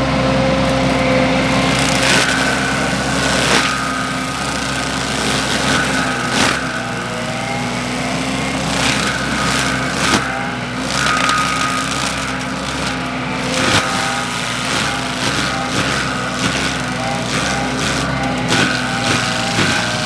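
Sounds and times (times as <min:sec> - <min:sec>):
engine running steadily: 0:00.0 - 0:20.0
high steady whine: 0:00.0 - 0:20.0
sharp knocks: 0:00.8 - 0:20.0.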